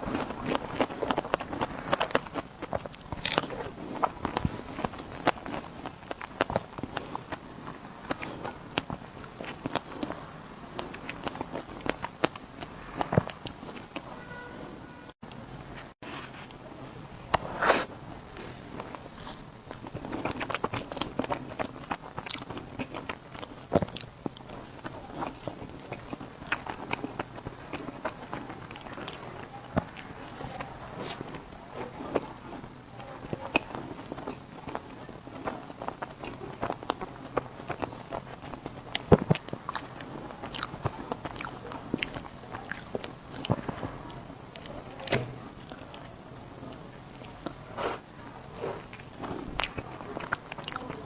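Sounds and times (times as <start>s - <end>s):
chewing clicks and smacks: 0.1s - 14.1s, 18.8s - 30.1s, 31.0s - 44.7s, 48.8s - 51.0s.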